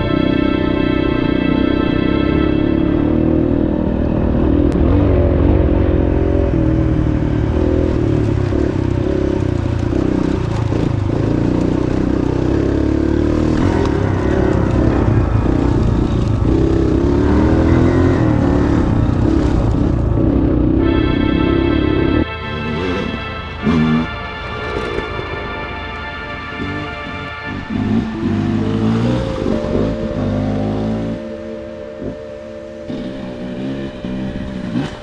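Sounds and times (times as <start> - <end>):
dirt bike engine revving: 2.7 - 25.6, 26.3 - 35.0.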